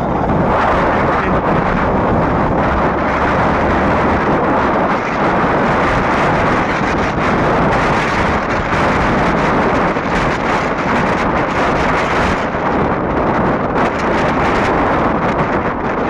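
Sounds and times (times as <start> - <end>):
road and vehicle noise: 0.0 - 16.0
wind rushing over microphone: 0.0 - 16.0.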